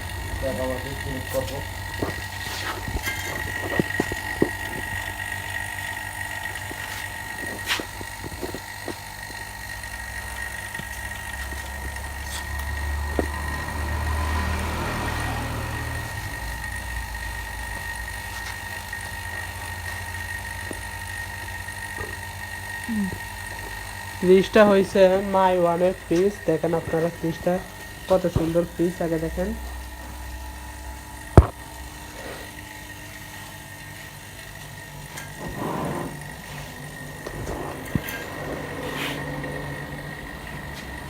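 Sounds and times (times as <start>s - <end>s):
vacuum pump humming: 0.0s - 41.0s.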